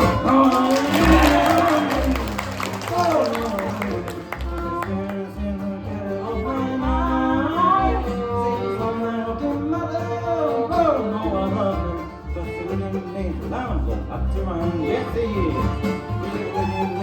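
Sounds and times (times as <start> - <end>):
low bass notes: 0.0 - 17.0
plucked guitar: 0.0 - 17.0.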